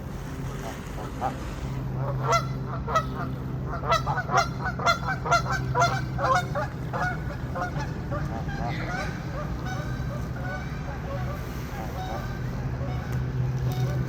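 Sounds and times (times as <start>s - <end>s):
goose honking: 2.0s - 14.0s.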